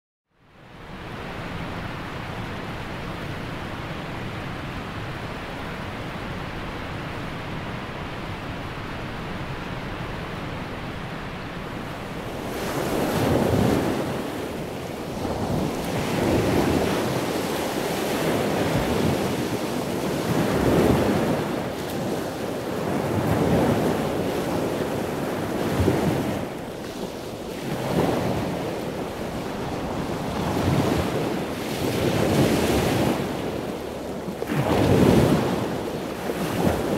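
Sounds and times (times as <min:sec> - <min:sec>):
heavy ocean surf: 0:00.6 - 0:36.9
wind buffeting microphone: 0:01.2 - 0:36.9.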